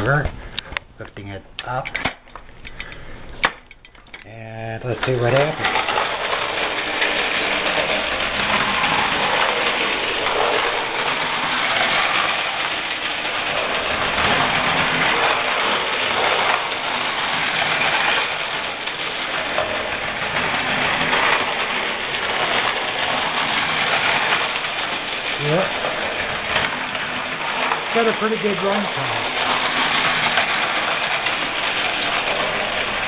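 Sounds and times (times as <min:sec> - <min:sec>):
clockwork toy train whirring rattle: 0:04.9 - 0:33.0.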